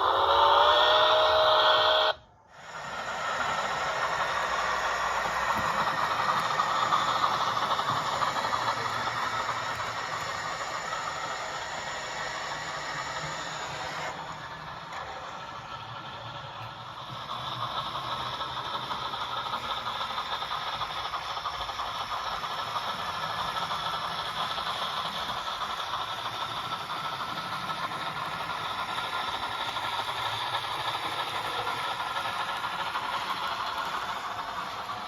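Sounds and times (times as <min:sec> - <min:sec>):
steam hissing: 0:00.0 - 0:35.0.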